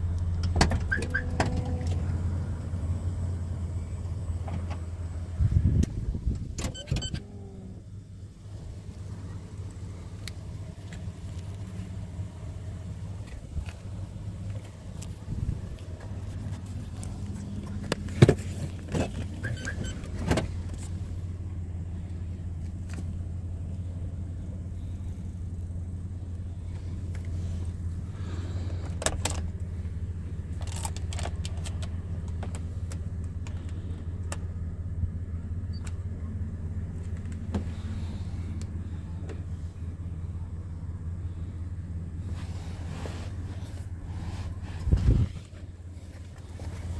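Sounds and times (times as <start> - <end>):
car engine humming: 0.0 - 46.9.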